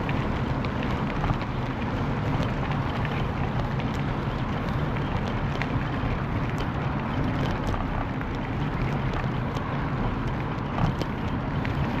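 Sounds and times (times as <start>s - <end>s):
bicycle rumble: 0.0s - 12.0s.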